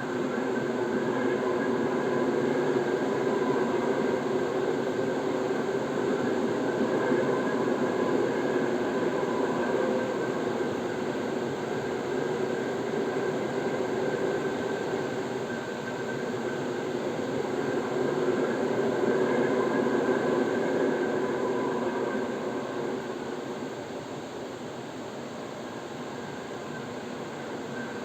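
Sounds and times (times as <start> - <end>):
train running along track: 0.0 - 28.0.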